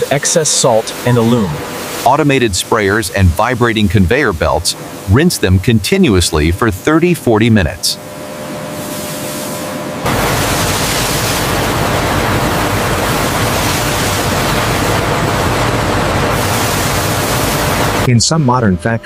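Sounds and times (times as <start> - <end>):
water spraying from nozzles: 0.0 - 18.1.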